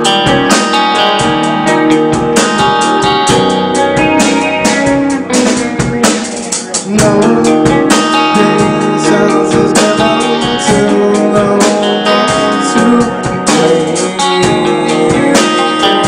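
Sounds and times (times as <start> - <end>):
drum kit steady beat: 0.0 - 16.0
electric guitars strumming chords: 0.0 - 16.0.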